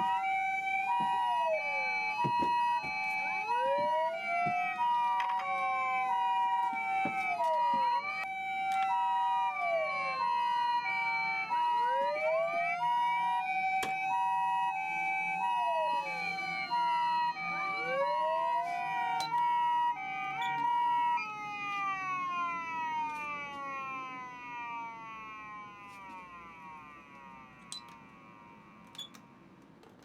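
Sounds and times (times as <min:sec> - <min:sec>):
falling siren sweeps: 0:00.0 - 0:29.2
two-note hi-lo siren: 0:00.0 - 0:29.2
wailing siren: 0:00.0 - 0:29.2.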